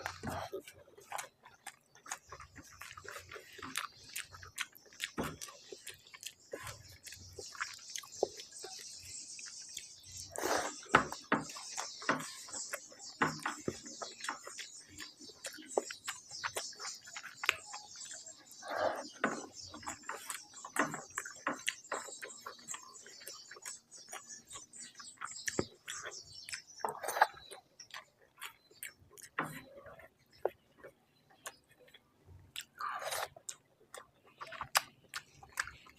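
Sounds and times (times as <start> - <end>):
wet chewing and lip smacking: 0.0 - 35.9.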